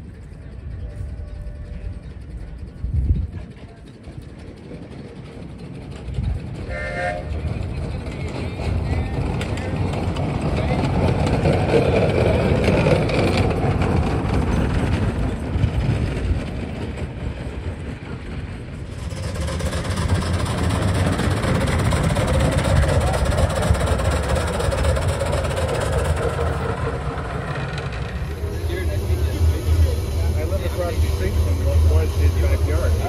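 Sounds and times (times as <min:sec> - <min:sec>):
miniature steam train rumbling: 0:00.0 - 0:33.0.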